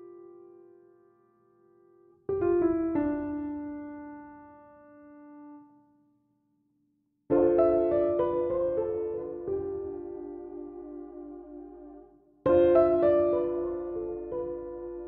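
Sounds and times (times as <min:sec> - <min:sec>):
piano chords ringing: 0:00.0 - 0:05.7, 0:07.3 - 0:15.0.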